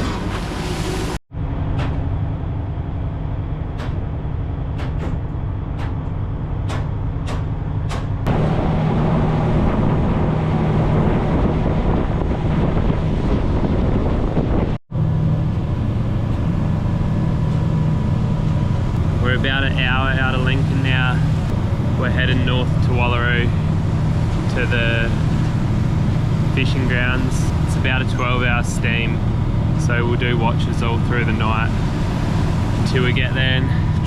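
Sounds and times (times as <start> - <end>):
diesel engine droning: 0.0 - 34.0
rushing noise: 0.0 - 34.0.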